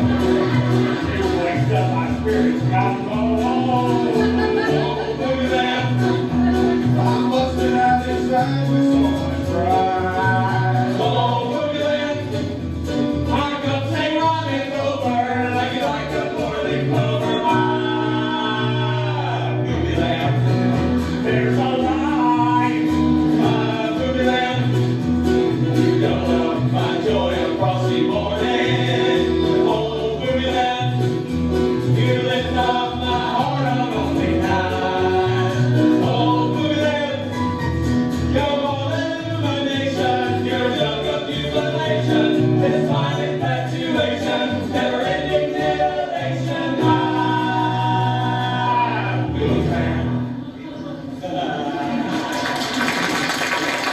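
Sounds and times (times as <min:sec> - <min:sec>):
country band with guitar and bass: 0:00.0 - 0:50.9
voices singing: 0:00.0 - 0:52.7.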